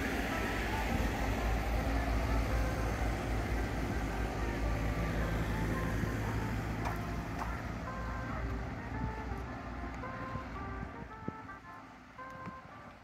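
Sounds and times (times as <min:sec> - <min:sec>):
engine humming: 0:00.0 - 0:13.0
low rumble of motor vehicles: 0:00.0 - 0:13.0.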